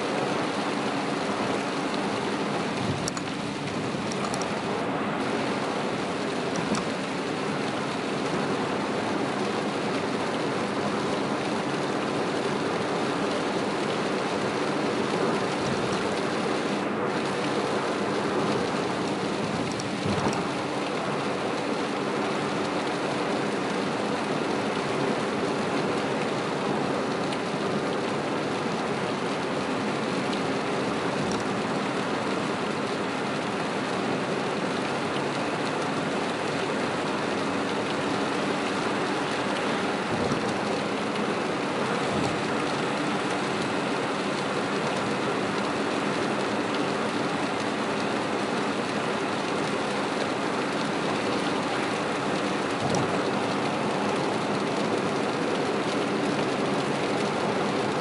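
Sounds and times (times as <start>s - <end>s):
heavy rain on car roof: 0.0s - 58.0s
tyres on wet road: 0.0s - 58.0s.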